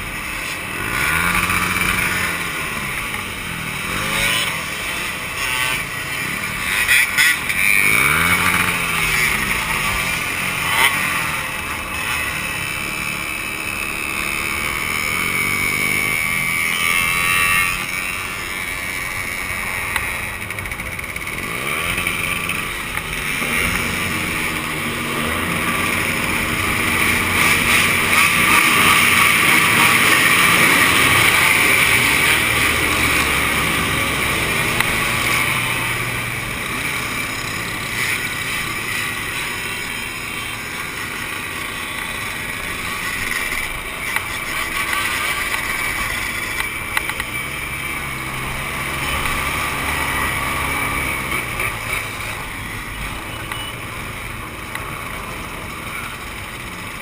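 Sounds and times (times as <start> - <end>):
two-stroke motorcycle engines revving: 0.0 - 57.0.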